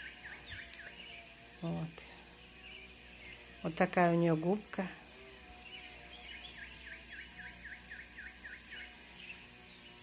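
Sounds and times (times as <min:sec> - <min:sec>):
songbird singing: 0:00.0 - 0:10.0.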